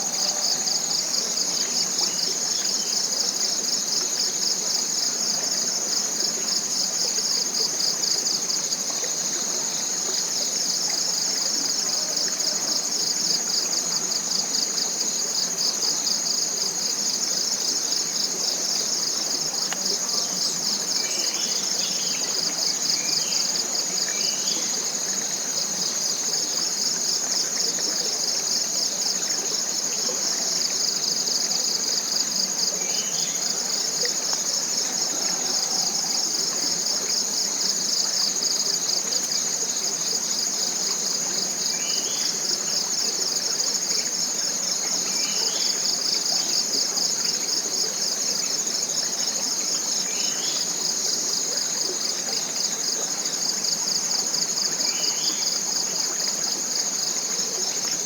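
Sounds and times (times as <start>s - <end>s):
insect chorus buzzing: 0.0s - 58.0s.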